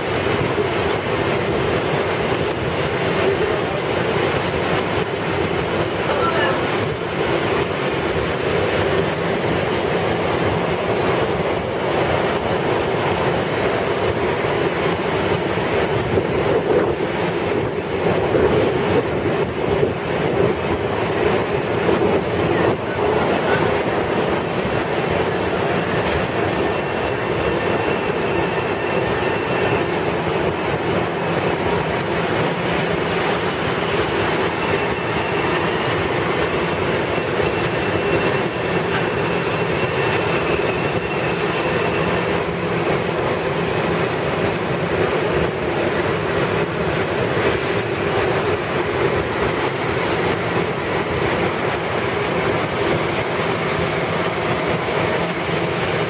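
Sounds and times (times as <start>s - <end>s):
electric train noise: 0.0s - 56.0s.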